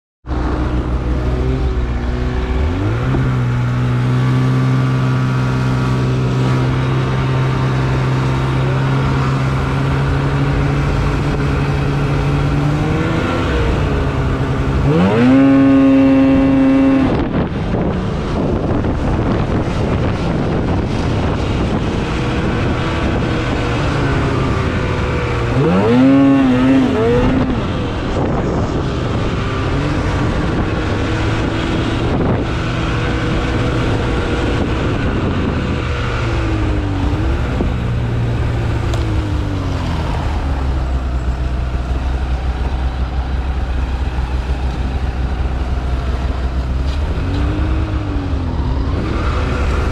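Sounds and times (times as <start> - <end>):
snowmobile engine revving: 0.3 - 49.9.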